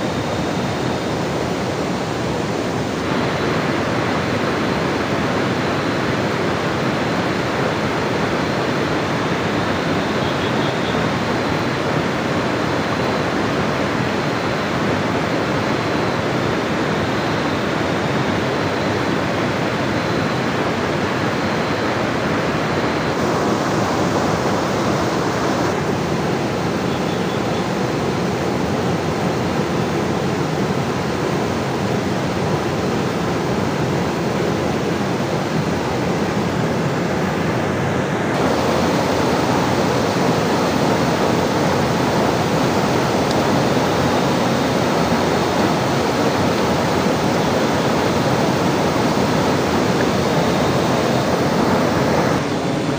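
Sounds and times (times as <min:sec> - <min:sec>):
heavy rain: 0:00.0 - 0:52.9
river rushing: 0:00.0 - 0:52.9.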